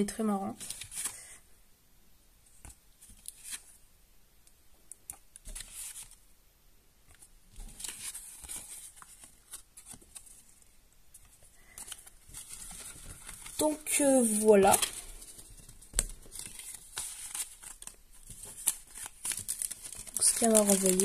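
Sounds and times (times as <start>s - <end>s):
paper cards rustling and sliding: 0.5s - 1.3s, 2.6s - 3.8s, 5.1s - 6.2s, 7.1s - 21.0s.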